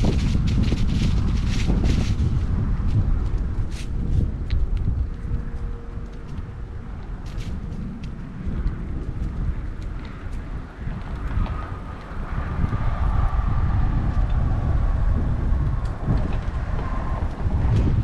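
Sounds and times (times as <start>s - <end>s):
bicycle tyres rolling: 0.0s - 18.0s
wind buffeting microphone: 0.0s - 18.0s.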